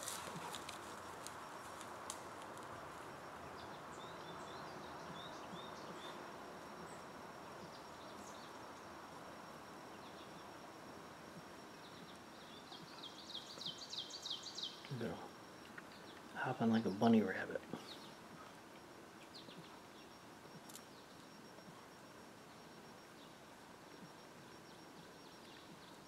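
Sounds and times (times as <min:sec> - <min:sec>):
faint steady high tone: 0:00.0 - 0:26.0
outdoor background hiss: 0:00.0 - 0:26.0
small birds chirping: 0:03.2 - 0:26.0.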